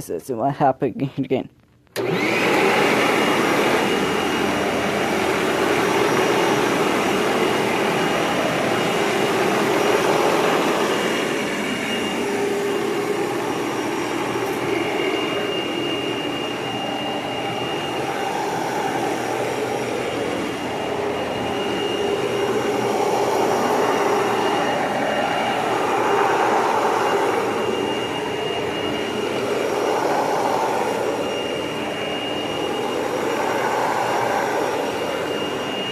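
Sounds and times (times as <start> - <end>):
vacuum cleaner running: 2.0 - 35.9
high whine: 3.6 - 35.9.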